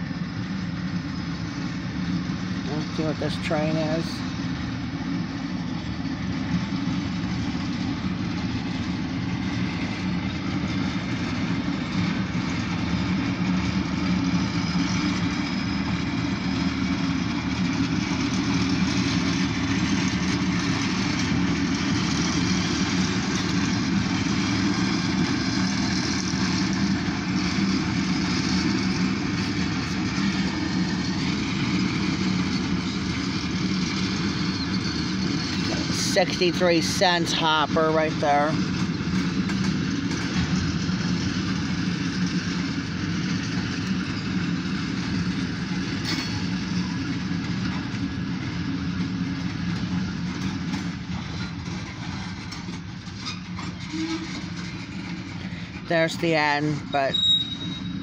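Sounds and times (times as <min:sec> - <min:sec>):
low vehicle rumble with hiss: 0:00.0 - 0:58.0.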